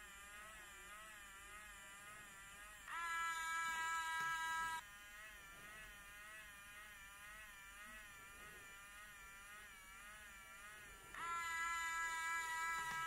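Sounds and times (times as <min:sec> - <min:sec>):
high buzzing motor whine: 0:00.0 - 0:13.0.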